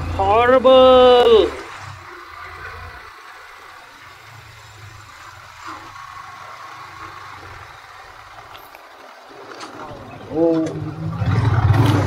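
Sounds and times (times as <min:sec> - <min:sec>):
motorcycle engine rumbling: 0:00.0 - 0:12.0
wind and road noise: 0:00.0 - 0:12.0.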